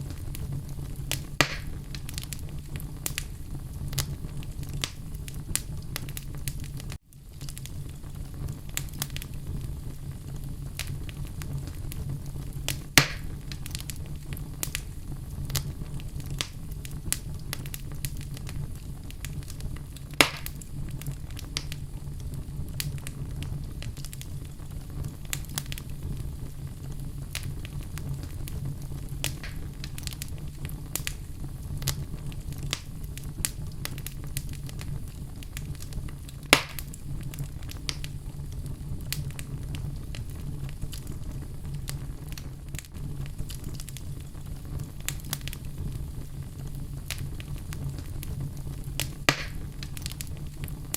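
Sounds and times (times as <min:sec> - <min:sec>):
fire crackling: 0:00.0 - 0:50.9
fire flames rumbling: 0:00.0 - 0:50.9
loud fire pops: 0:00.0 - 0:50.9.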